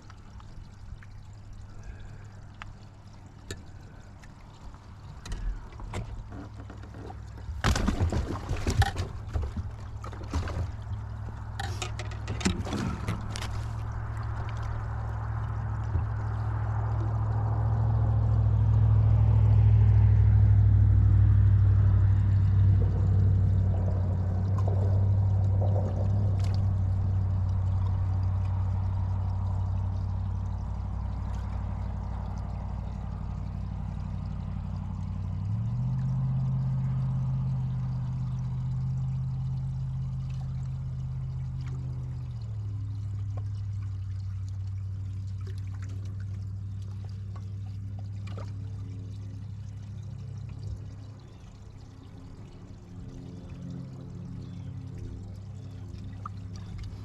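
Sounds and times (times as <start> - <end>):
boat motor running: 0.0 - 57.0
water along the hull: 0.0 - 57.0.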